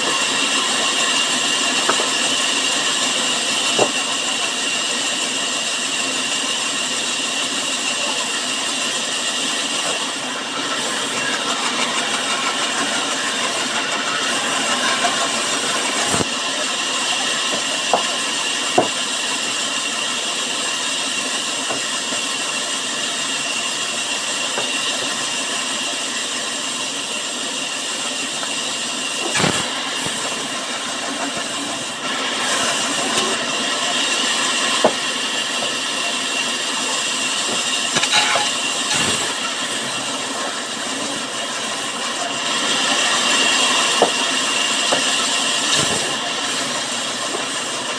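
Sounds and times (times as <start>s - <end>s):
sawmill machinery whining: 0.0s - 47.9s.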